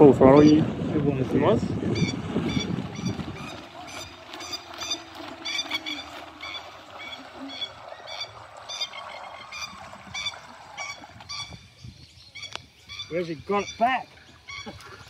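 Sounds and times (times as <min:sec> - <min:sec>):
plover calling: 0:01.9 - 0:15.0.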